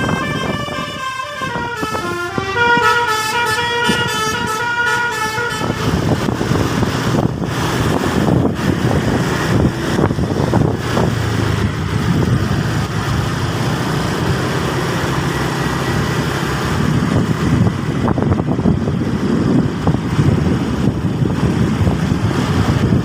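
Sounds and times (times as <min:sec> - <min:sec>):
bus engine rumble: 0:00.0 - 0:23.0.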